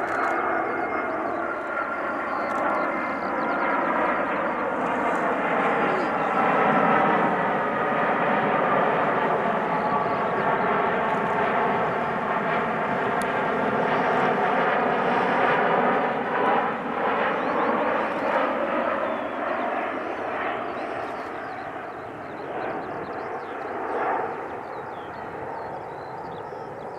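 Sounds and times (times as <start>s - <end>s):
jet engines flying by: 0.0s - 26.9s.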